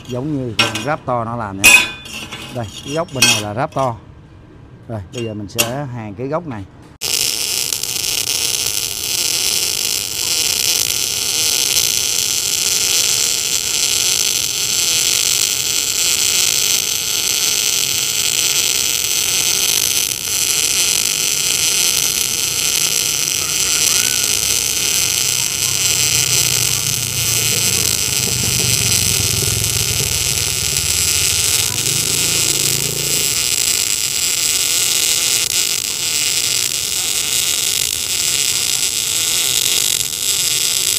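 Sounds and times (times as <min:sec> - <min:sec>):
welding arc hissing: 0:00.0 - 0:03.9, 0:07.0 - 0:40.9.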